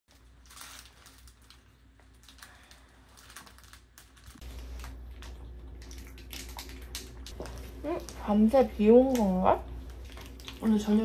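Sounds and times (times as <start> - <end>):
low room hum: 0.1 - 11.0.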